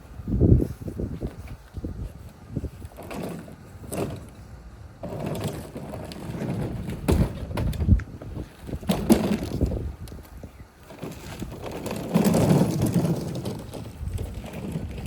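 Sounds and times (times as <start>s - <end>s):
objects rattling and clunking: 2.6s - 15.0s.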